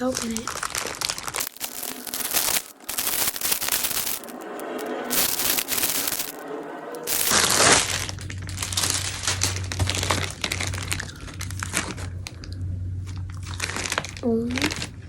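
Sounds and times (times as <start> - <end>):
packaging crinkling: 0.0 - 6.4, 7.1 - 15.0
low steady hum: 0.0 - 15.0.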